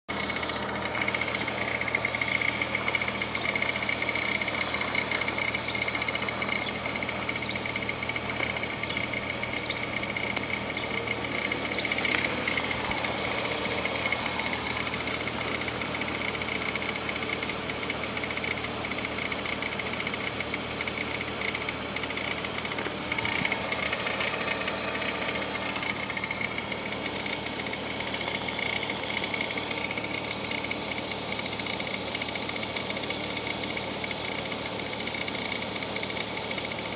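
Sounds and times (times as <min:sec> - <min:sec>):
car engine idling: 0:00.0 - 0:36.9
steady high whine: 0:00.1 - 0:31.8.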